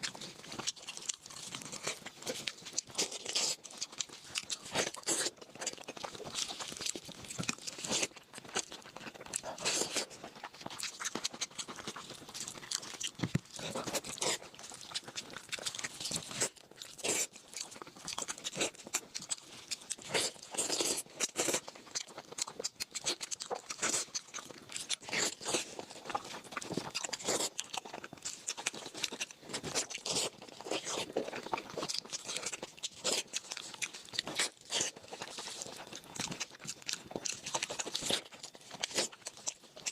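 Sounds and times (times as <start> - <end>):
person chewing crisp food: 0.0 - 39.9.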